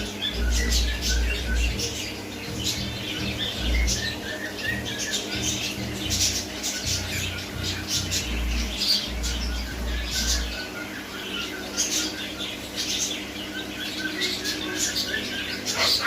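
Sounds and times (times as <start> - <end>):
caged birds chirping and squawking: 0.0 - 16.0.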